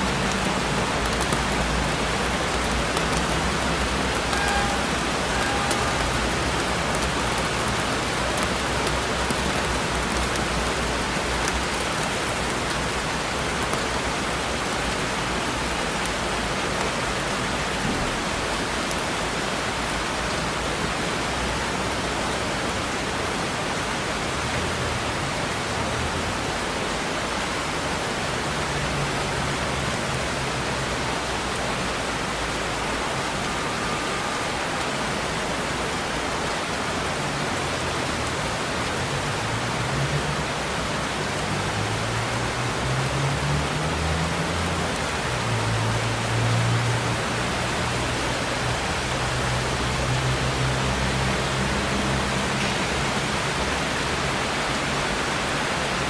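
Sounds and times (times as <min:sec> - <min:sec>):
steady falling rain: 0:00.0 - 0:56.0.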